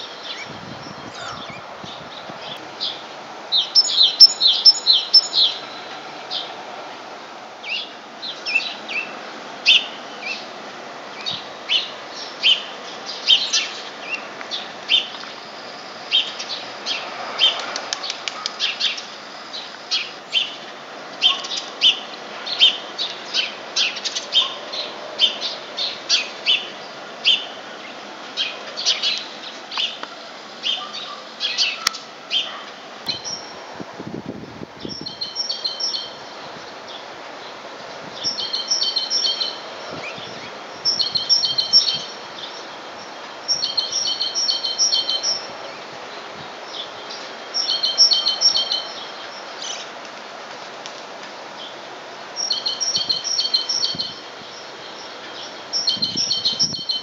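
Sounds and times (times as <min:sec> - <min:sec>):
small songbirds chirping: 0:00.0 - 0:06.6, 0:07.6 - 0:33.6, 0:34.8 - 0:50.0, 0:51.3 - 0:57.0
steady background noise: 0:00.0 - 0:57.0.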